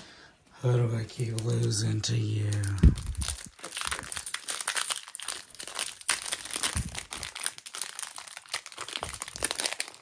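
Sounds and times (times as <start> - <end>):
foil wrapper crinkling: 1.2 - 10.0.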